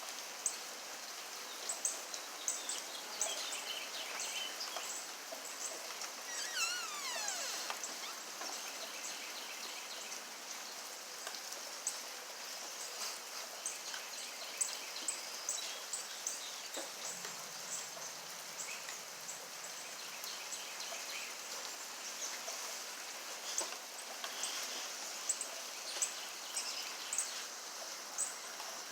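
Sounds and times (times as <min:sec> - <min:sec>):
steady rainfall: 0:00.0 - 0:28.9.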